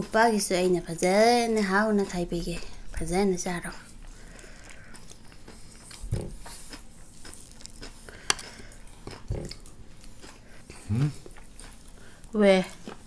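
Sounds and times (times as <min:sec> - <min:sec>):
mouth chewing sounds: 0:01.5 - 0:13.0.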